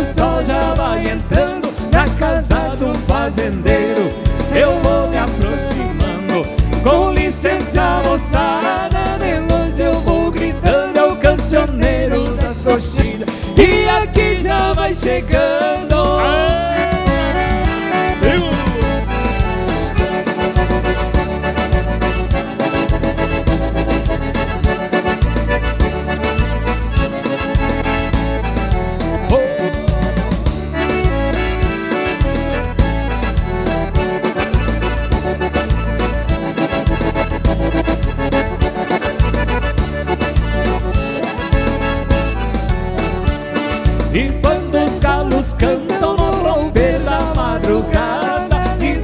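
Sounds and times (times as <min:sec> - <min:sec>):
accordion folk melody: 0:00.0 - 0:49.0.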